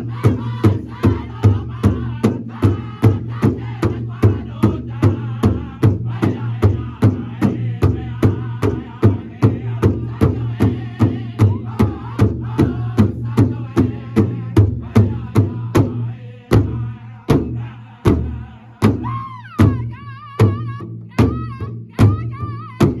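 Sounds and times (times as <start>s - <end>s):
group of singers: 0.0s - 23.0s
powwow drum beat: 0.0s - 23.0s.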